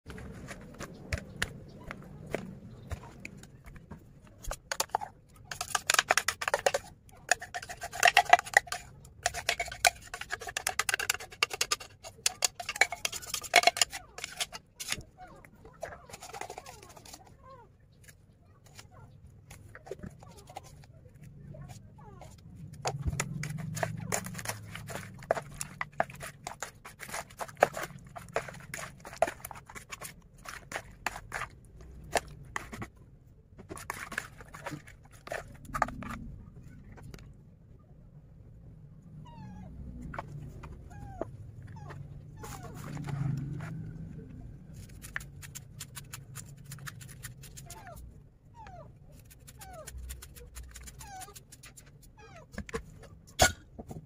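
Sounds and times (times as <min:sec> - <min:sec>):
metal spoon stirring wet paste: 0:00.1 - 0:36.4, 0:41.9 - 0:48.1, 0:49.1 - 0:53.2.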